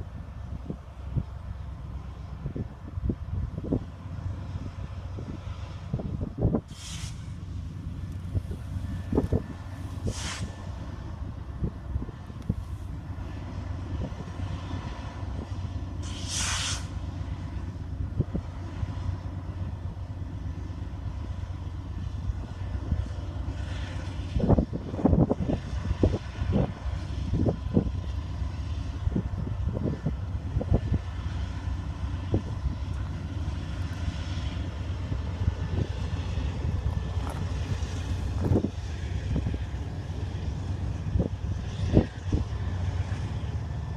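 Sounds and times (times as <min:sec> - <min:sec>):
freight train rumbling: 0:00.0 - 0:43.9
train knocks and clanks: 0:00.0 - 0:43.9.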